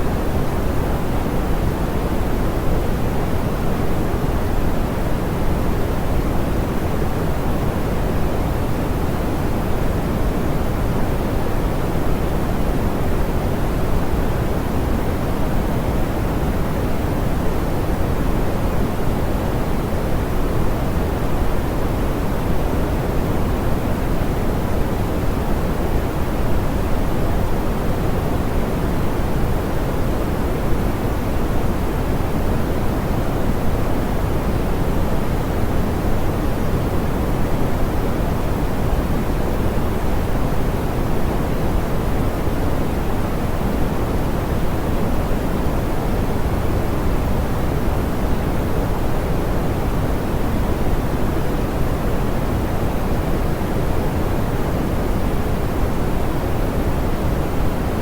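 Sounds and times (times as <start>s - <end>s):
soft pink noise hiss: 0.0s - 58.0s.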